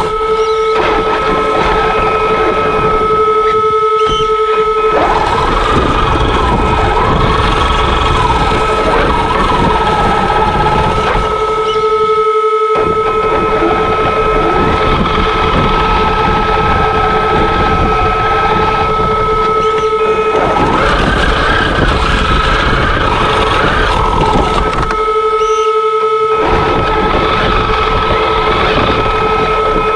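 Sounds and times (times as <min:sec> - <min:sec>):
electric motor whining: 0:00.0 - 0:29.9
steady high tone: 0:00.0 - 0:29.9.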